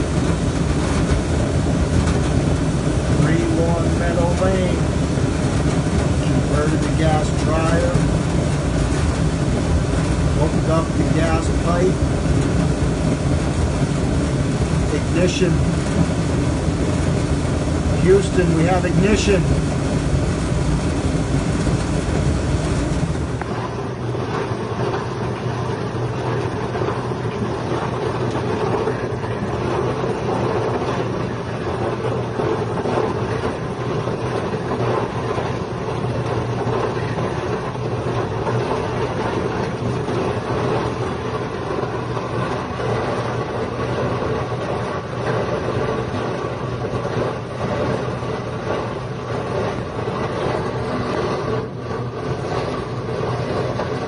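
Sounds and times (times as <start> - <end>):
clothes dryer running: 0.0 - 54.0.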